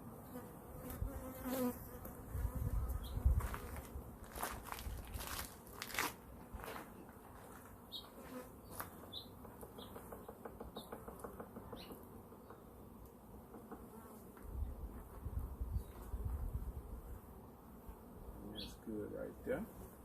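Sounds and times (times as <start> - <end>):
bees buzzing: 0.0 - 6.4, 7.0 - 20.0.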